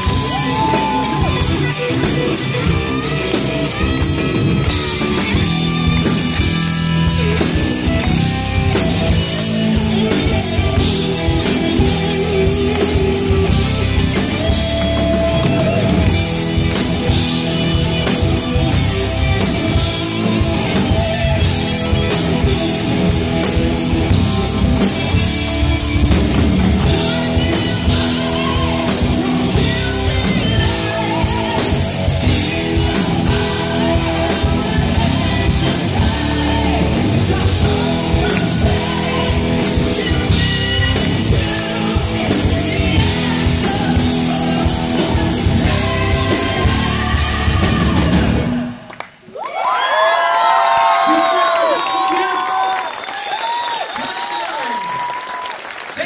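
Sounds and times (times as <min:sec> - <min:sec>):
bass guitar: 0:00.0 - 0:48.9
drum kit: 0:00.0 - 0:48.9
electric guitars: 0:00.0 - 0:49.1.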